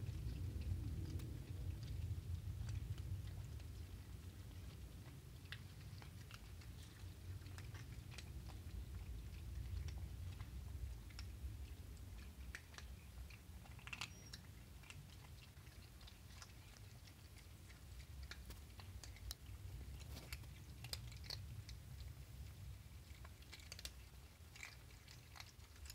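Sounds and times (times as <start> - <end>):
cats crunching dry kibble: 0.0 - 25.9
low steady rumble: 0.0 - 25.9.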